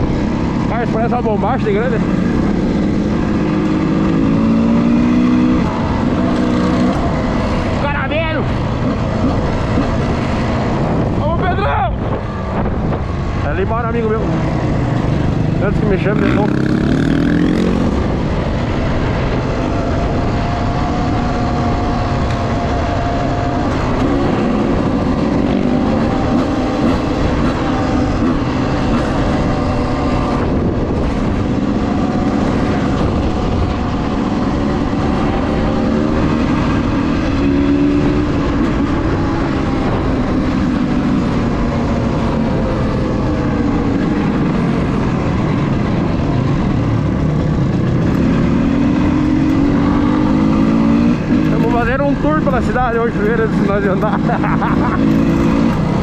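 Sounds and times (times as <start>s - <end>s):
dirt bike engine revving: 0.0s - 11.4s, 12.0s - 56.0s.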